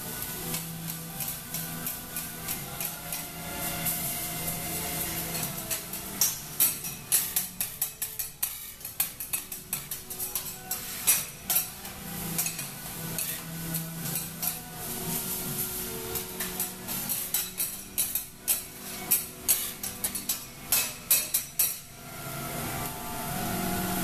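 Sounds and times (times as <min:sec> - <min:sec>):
metal spatulas scraping on griddle: 0:00.0 - 0:22.9.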